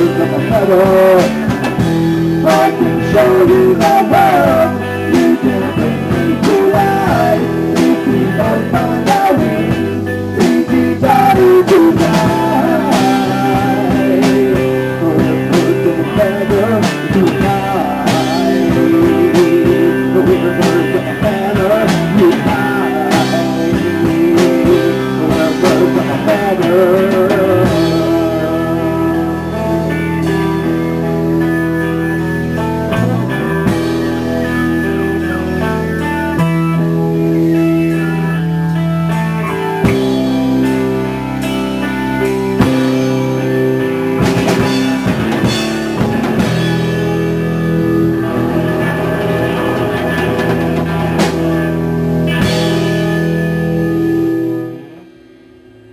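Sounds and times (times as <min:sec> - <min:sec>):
electric guitar lead with bends: 0:00.0 - 0:55.9
rock band playing: 0:00.0 - 0:55.9.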